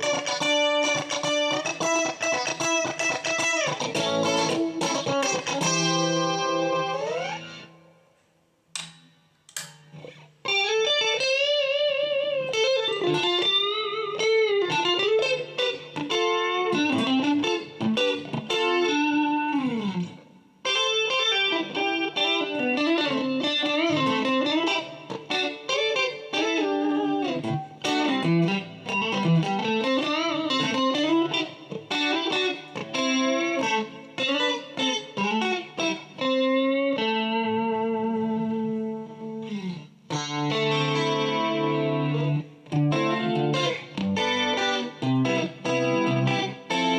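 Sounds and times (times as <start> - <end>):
clean electric guitar melody: 0.0 - 8.2, 8.8 - 46.9.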